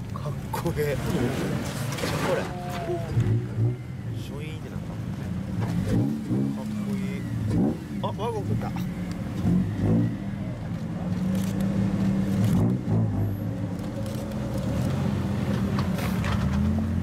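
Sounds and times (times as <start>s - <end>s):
cars creeping past: 0.0s - 17.0s.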